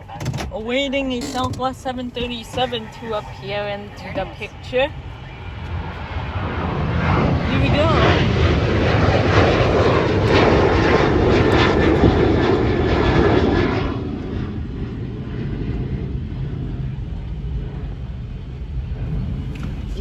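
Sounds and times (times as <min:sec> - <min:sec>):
jet airliner passing: 0:00.0 - 0:20.0
wind rumble on microphone: 0:00.0 - 0:20.0.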